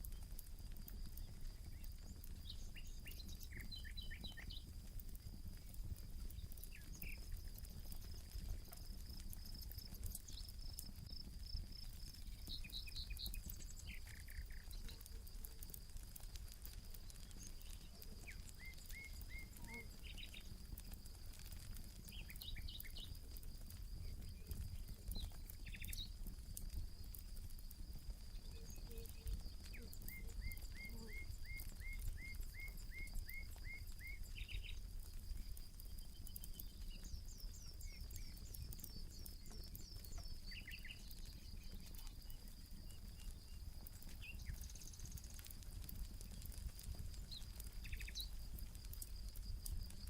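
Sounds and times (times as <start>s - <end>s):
campfire crackling and popping: 0.0s - 50.0s
small birds chirping: 0.0s - 50.0s.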